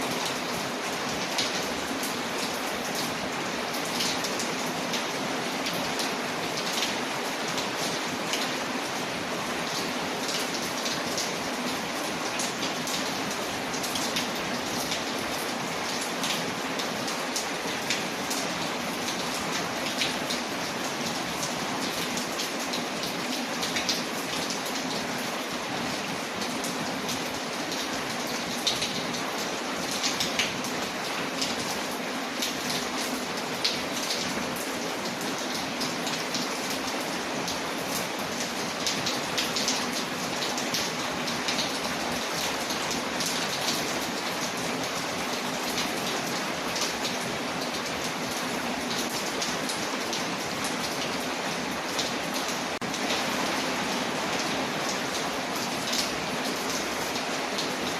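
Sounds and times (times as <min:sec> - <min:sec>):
rain on a window: 0:00.0 - 0:57.9.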